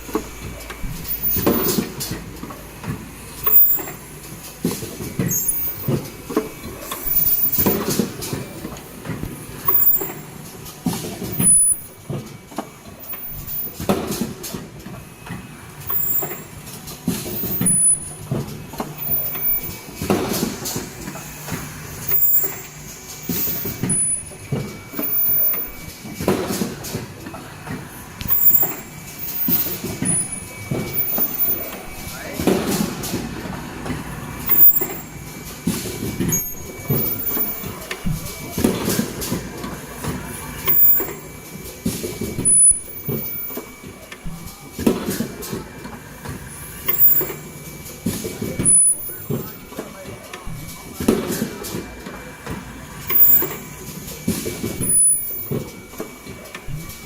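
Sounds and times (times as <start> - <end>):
machine clattering strokes: 0.0 - 57.0.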